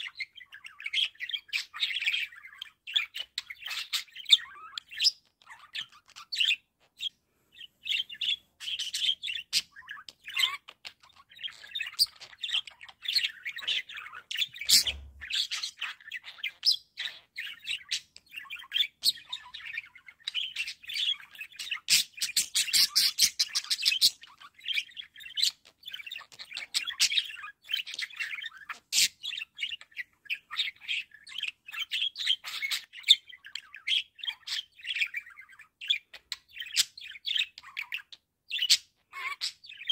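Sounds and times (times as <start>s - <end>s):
budgerigars warbling and chattering: 0.0s - 39.9s.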